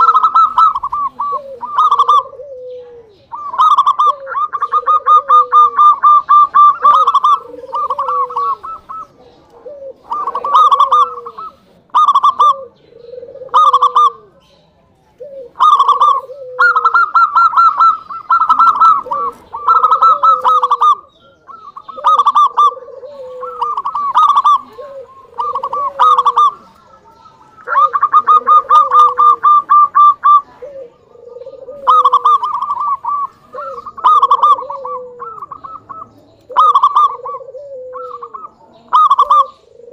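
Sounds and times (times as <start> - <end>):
dove cooing trill: 0.0 - 39.9.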